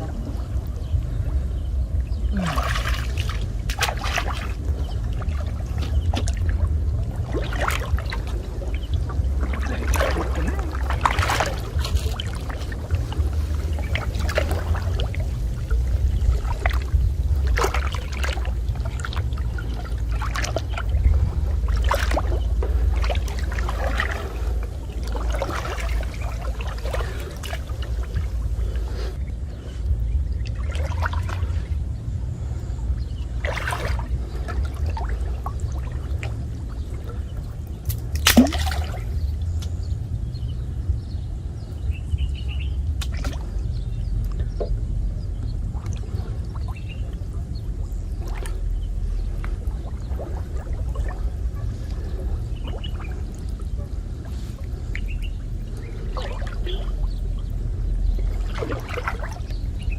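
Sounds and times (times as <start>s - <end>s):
water splashes: 0.0s - 40.1s, 41.8s - 59.9s
low rumble: 0.0s - 59.9s
water pouring and trickling: 2.3s - 29.2s, 33.0s - 39.6s, 42.9s - 59.9s.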